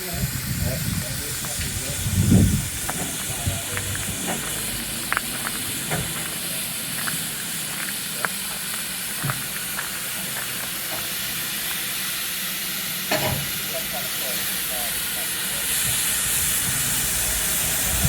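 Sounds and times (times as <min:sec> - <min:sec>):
hiss of escaping steam: 0:00.0 - 0:18.0.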